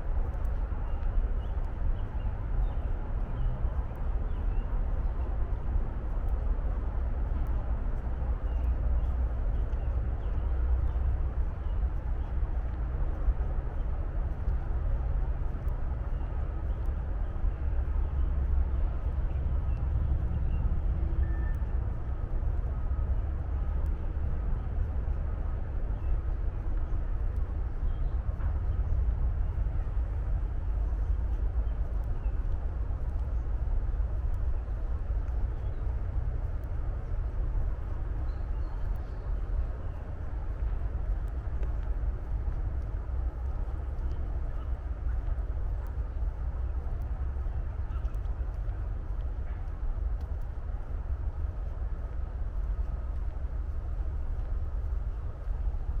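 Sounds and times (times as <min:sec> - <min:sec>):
distant highway traffic rumble: 0:00.0 - 0:56.0.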